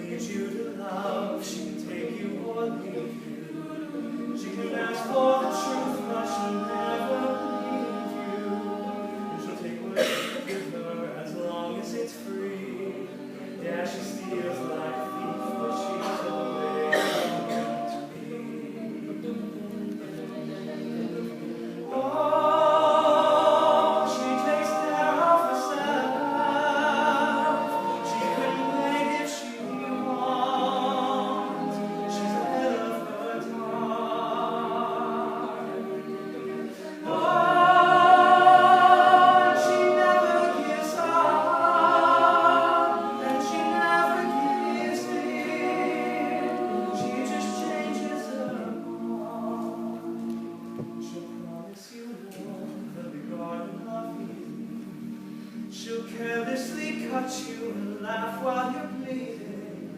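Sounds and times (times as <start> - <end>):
male a cappella group singing: 0.0 - 59.9.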